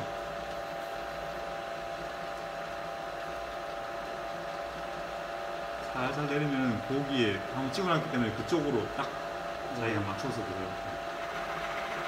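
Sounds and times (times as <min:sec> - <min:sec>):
drill press motor humming: 0:00.0 - 0:12.0.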